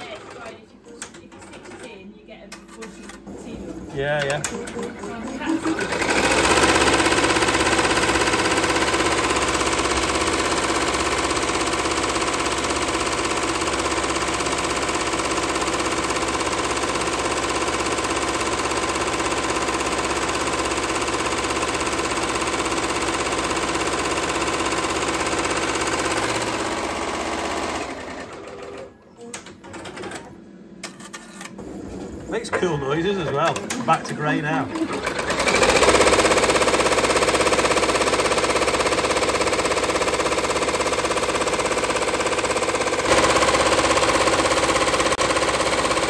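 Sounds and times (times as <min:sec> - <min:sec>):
embroidery machine stitching: 0:00.0 - 0:02.0, 0:02.7 - 0:46.0.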